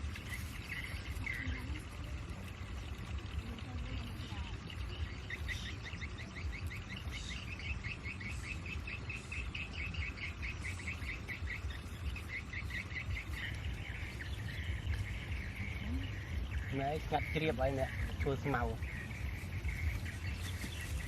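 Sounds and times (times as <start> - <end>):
bird chirping rapidly: 0.0 - 21.0
steady low rumble: 0.0 - 21.0.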